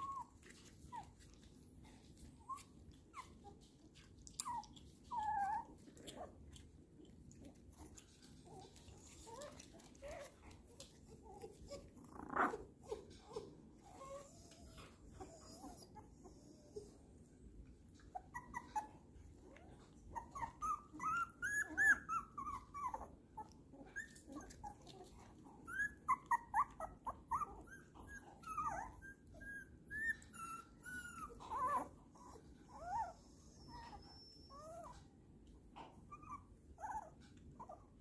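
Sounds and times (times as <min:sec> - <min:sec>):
puppies whimpering and squeaking: 0:00.0 - 0:38.0.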